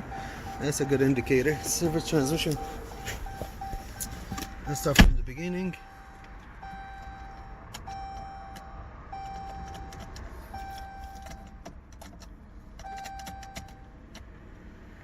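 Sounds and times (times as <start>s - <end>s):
car warning chime: 0.0s - 11.6s, 12.8s - 13.9s.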